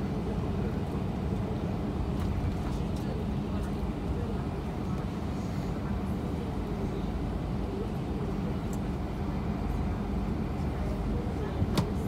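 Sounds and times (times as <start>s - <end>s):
aircraft engines low rumble: 0.0s - 12.0s.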